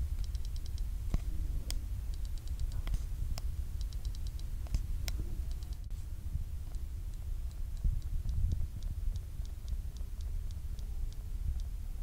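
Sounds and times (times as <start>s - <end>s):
vibration motor ticks and clicks: 0.0s - 5.9s, 6.6s - 12.0s.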